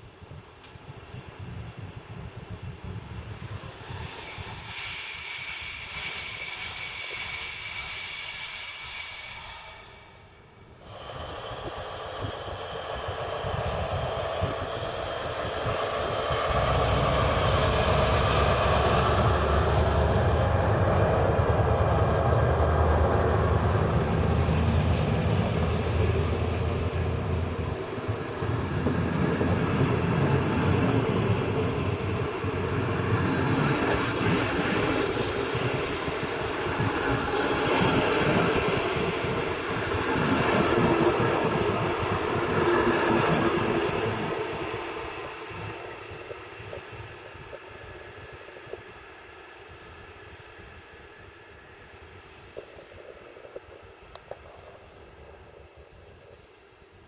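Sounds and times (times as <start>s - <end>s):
train wheels squealing: 0.0s - 52.2s
train approaching: 0.0s - 57.0s.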